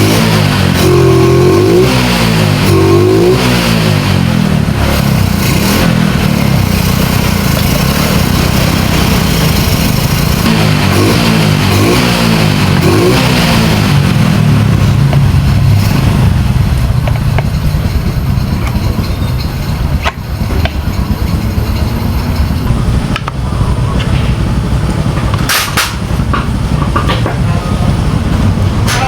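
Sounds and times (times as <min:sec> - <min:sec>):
low engine rumble: 0:00.0 - 0:29.0.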